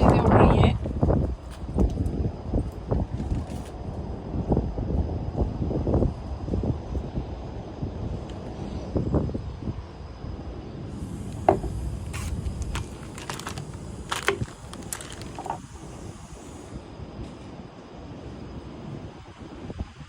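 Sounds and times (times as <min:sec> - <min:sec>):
wind buffeting microphone: 0:00.0 - 0:17.3.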